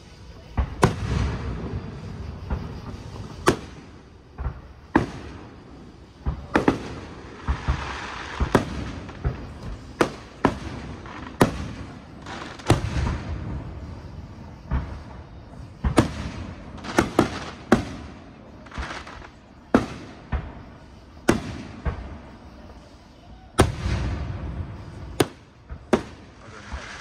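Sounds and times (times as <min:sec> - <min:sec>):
fireworks bursting with echo: 0:00.0 - 0:27.0.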